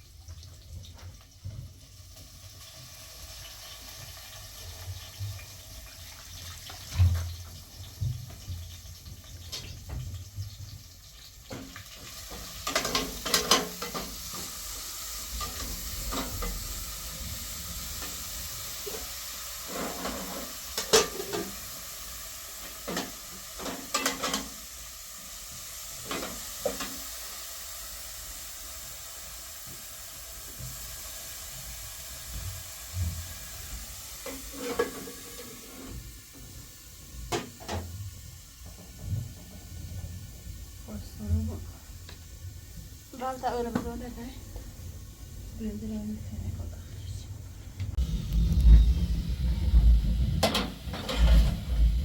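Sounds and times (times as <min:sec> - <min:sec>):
food sizzling in a pan: 0:00.0 - 0:47.2, 0:47.9 - 0:52.0.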